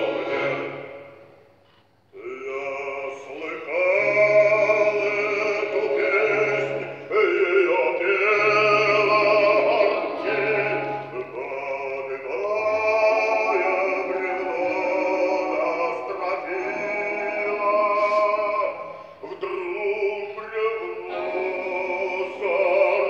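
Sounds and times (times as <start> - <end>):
choral singing: 0.0 - 1.5, 2.1 - 23.0.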